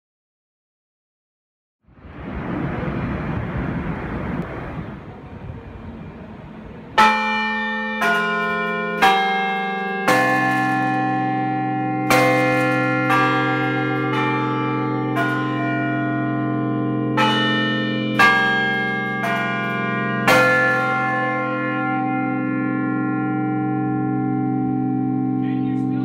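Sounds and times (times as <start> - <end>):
large bells ringing: 3.8 - 26.0.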